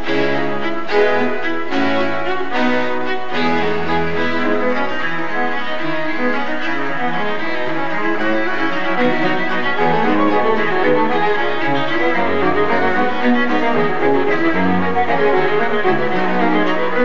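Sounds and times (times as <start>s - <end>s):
bowed strings playing chords: 0.0s - 17.0s.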